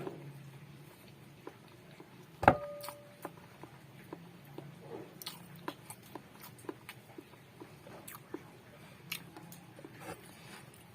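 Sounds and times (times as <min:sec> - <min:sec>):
close chewing with wet smacks: 0:00.4 - 0:02.4, 0:03.2 - 0:10.9.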